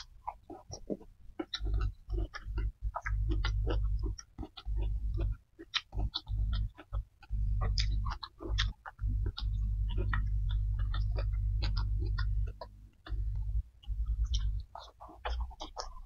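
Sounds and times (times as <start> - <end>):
chewing and mouth smacking: 0.0 - 16.0.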